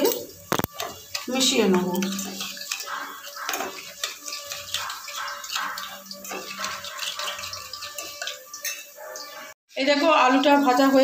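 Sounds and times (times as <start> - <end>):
spoon clinking against bowl: 0.0 - 9.5
spoon stirring paste in bowl: 0.0 - 9.6.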